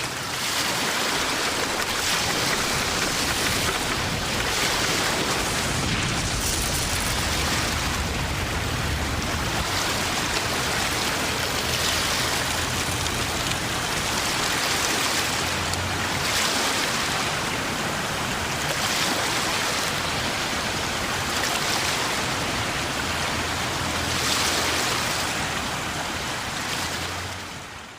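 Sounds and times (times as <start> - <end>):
churning water rushing: 0.0 - 27.9.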